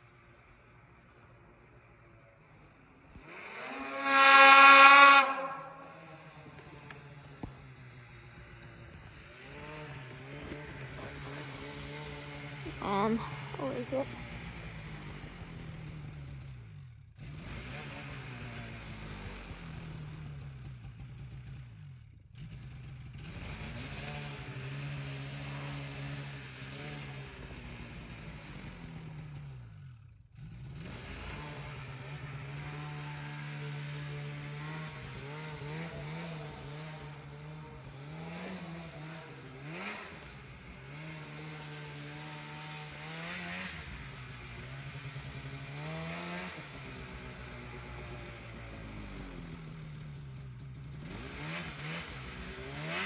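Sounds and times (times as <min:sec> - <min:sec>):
snowmobile engine revving: 0:00.0 - 0:21.7, 0:22.3 - 0:53.0.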